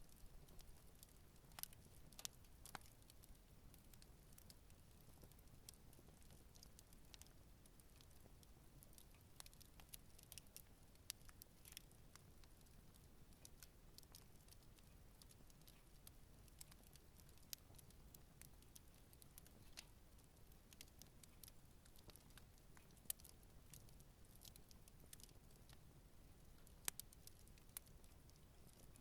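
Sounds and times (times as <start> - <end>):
campfire crackling: 0.1 - 29.0.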